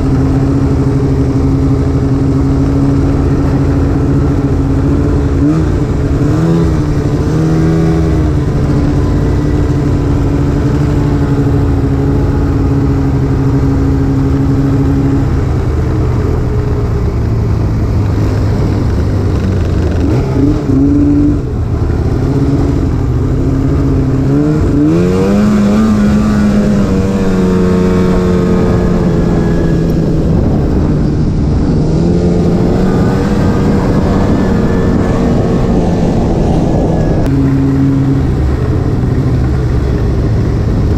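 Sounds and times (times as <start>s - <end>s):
snowmobile engine: 0.0s - 40.9s.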